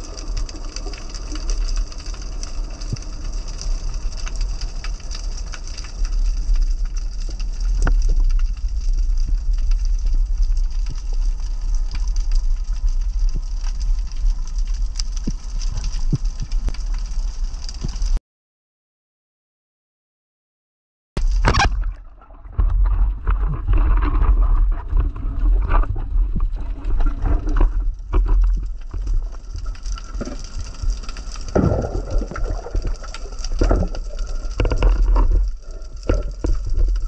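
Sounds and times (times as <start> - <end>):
muffled underwater rumble: 0.0 - 18.2, 21.2 - 37.0
sharp clicks and crackles: 0.0 - 18.2, 21.2 - 37.0.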